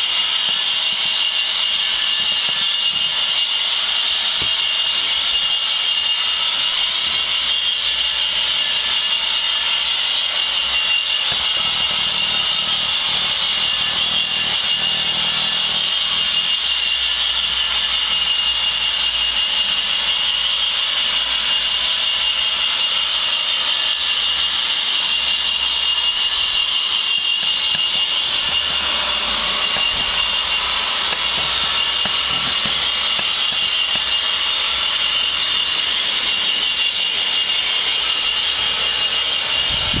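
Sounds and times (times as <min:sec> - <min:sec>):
high whine: 0:00.0 - 0:40.0
model locomotive engine hum: 0:00.0 - 0:40.0.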